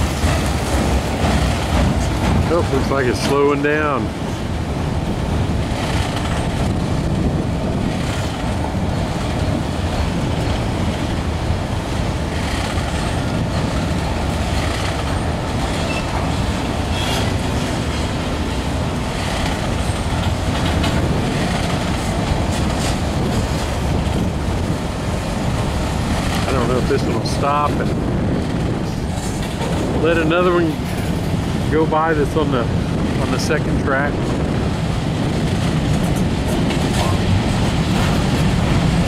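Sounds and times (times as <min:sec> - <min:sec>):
train wheels rumbling on rail: 0:00.0 - 0:39.0
wheels clanking over rail joints: 0:00.0 - 0:39.0.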